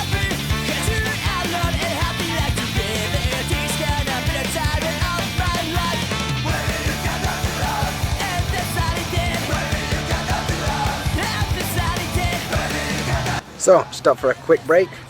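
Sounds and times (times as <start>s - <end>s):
rock music with fast drums: 0.0s - 13.4s
shouted or sung vocal: 0.0s - 15.0s.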